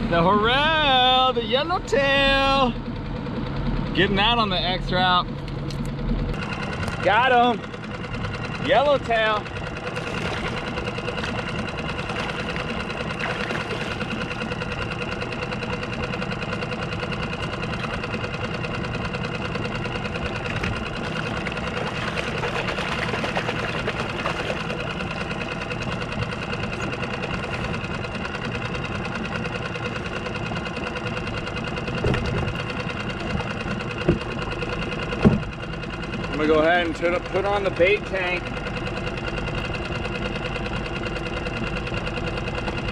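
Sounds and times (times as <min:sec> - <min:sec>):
outboard motor running: 0:00.0 - 0:42.9.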